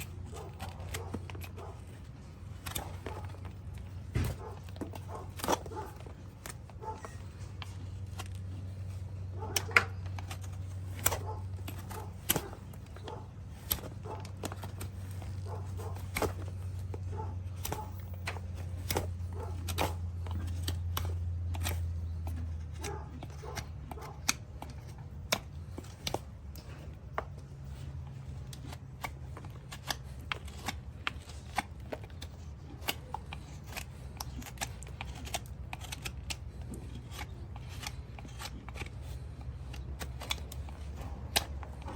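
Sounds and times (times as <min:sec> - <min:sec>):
hand tools clicking and scraping hoof: 0:00.0 - 0:41.9.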